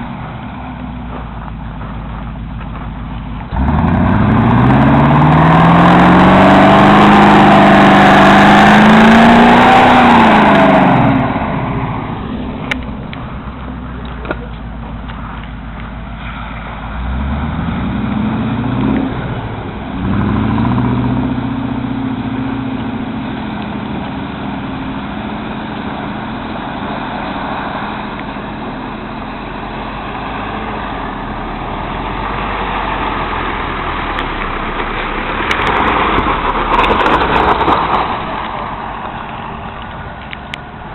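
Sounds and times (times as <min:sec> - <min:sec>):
engine revving: 0:03.4 - 0:15.4, 0:16.2 - 0:40.9.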